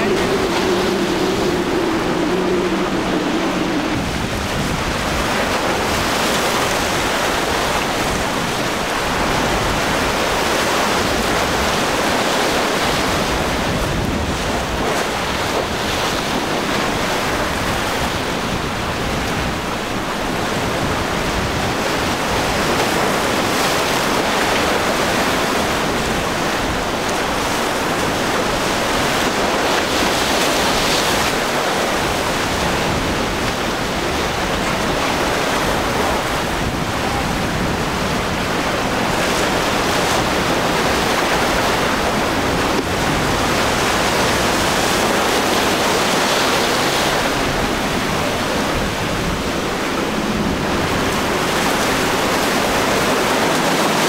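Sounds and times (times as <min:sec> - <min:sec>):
waves breaking and churning: 0:00.0 - 0:54.0
wind on microphone: 0:00.0 - 0:54.0.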